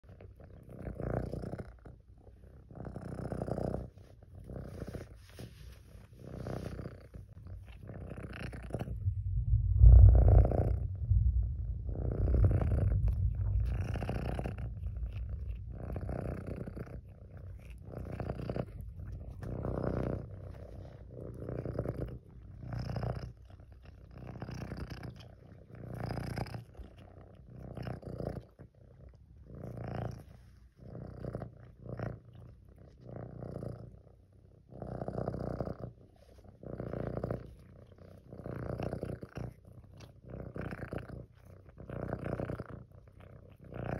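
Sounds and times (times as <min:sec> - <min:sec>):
kitten purring: 0:00.0 - 0:43.9.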